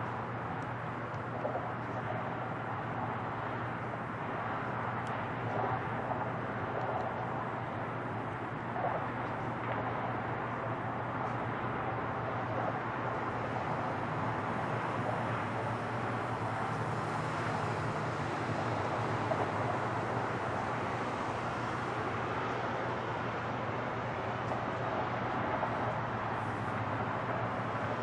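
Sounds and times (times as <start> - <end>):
distant jet engines roaring: 0.0 - 28.0.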